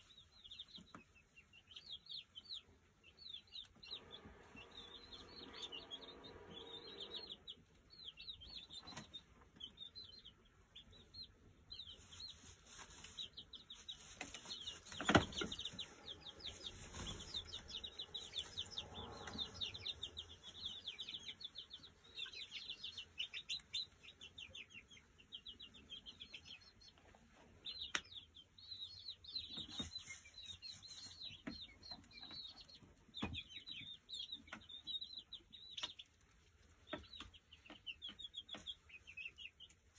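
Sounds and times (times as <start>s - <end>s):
chicks chirping and peeping: 0.0s - 39.9s.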